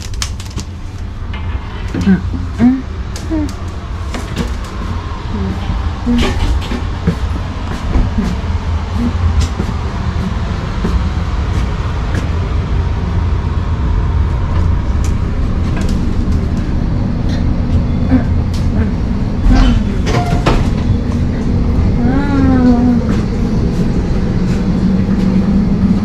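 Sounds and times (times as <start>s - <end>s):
train coach rumble: 0.0s - 26.0s.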